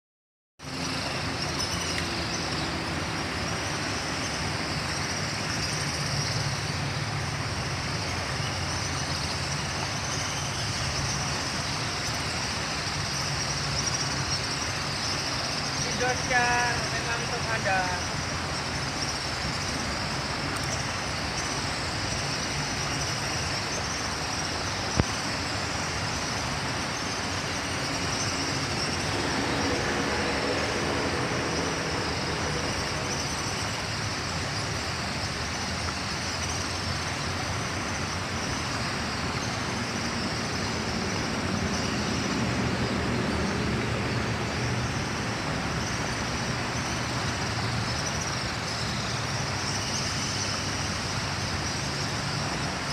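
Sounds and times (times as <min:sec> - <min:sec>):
river water rushing over rocks: 0:00.6 - 0:52.9
traffic noise: 0:00.6 - 0:52.9.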